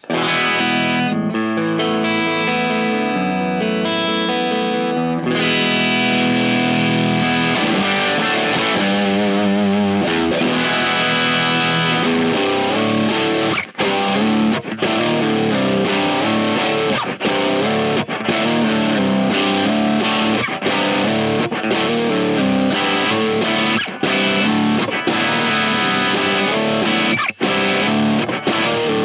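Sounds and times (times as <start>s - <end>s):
overdriven electric guitar chords: 0.0s - 29.0s.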